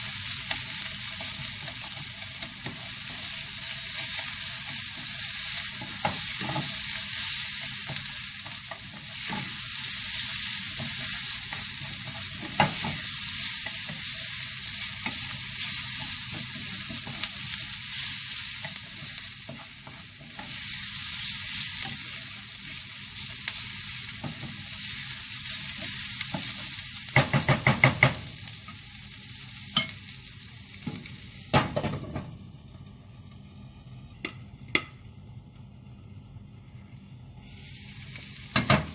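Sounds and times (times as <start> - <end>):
rice sizzling in a pan: 0.0 - 38.9.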